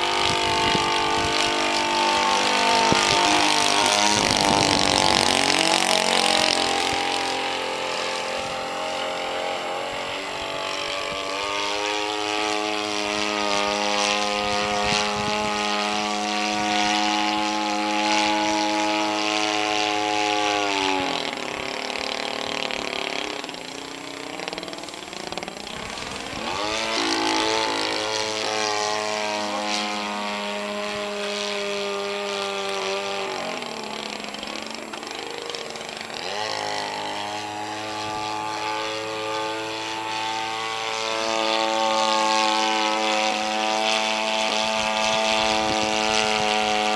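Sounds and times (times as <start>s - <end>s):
propeller aircraft flying past: 0.0s - 46.9s.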